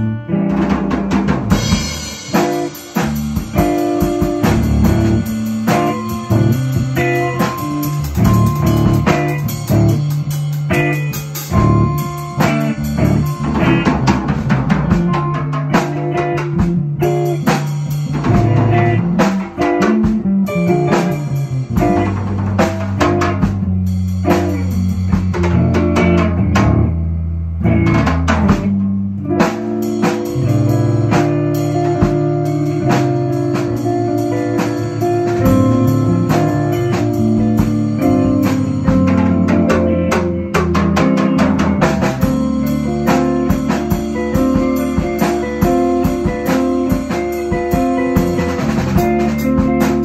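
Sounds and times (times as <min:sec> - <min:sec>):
live rock band playing: 0:00.0 - 0:50.0.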